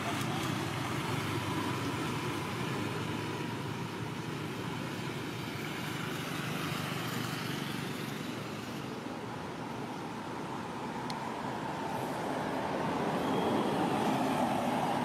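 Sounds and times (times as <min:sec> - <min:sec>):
rushing outdoor hum: 0:00.0 - 0:15.0.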